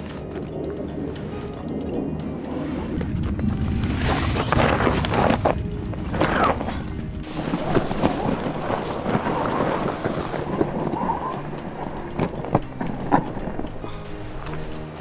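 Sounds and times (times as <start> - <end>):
background music: 0.0 - 15.0
rustling: 0.0 - 15.0.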